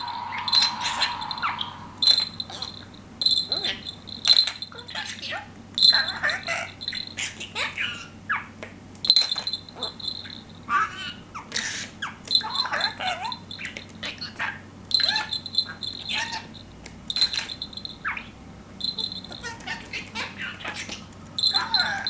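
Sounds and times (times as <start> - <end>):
bell toy tinkling: 0.0 - 7.9, 9.0 - 11.2, 12.3 - 20.5, 21.4 - 22.0
budgerigar chattering: 3.4 - 8.5, 9.1 - 22.0.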